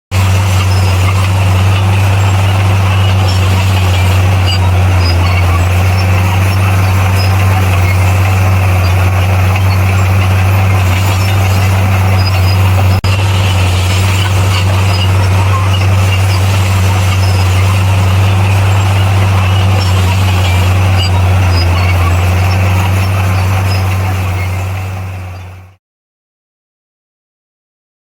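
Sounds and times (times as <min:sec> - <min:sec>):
heavy diesel engine droning: 0:00.1 - 0:25.8.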